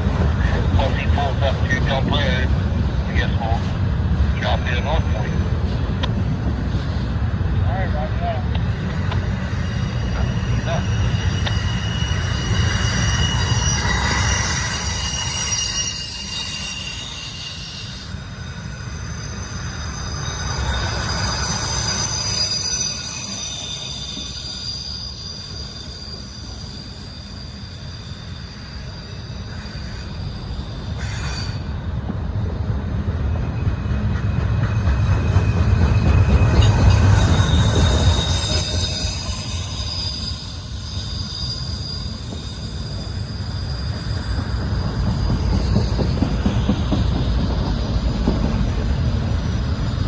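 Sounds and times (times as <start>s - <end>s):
train rumble: 0.0s - 50.0s
train wheels squealing: 0.0s - 50.0s.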